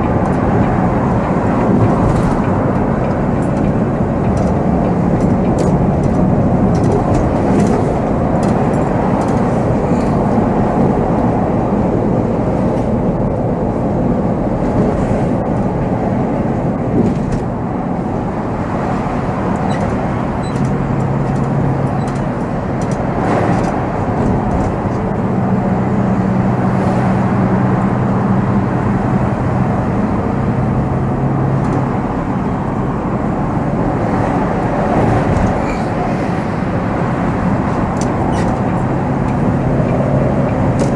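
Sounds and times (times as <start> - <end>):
diesel engine running: 0.0 - 40.9
road rumble: 0.0 - 40.9.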